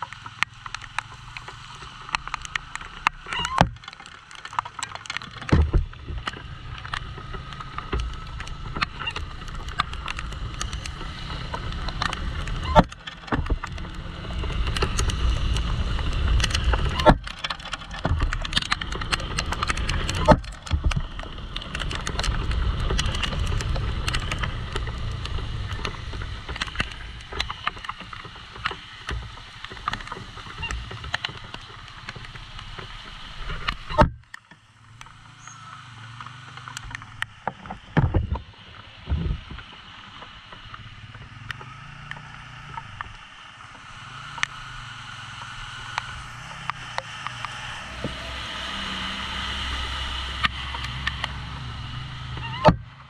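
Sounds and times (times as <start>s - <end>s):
sharp clicks and knocks: 0.0s - 35.4s, 36.2s - 44.6s, 45.4s - 53.0s
motorcycle rumble: 0.0s - 53.0s
water rush and tyre spray: 0.0s - 53.0s.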